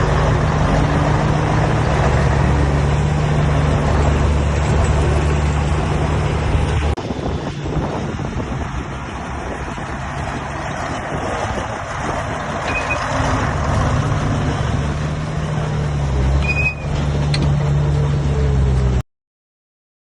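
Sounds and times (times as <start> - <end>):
diesel machinery engine running: 0.0 - 19.0.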